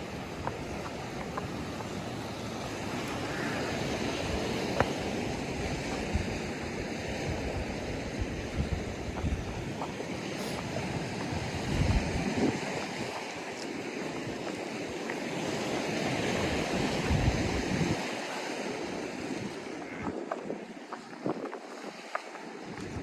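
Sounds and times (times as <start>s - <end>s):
ocean surf washing: 0.0s - 23.0s
wind buffeting microphone: 0.0s - 23.0s.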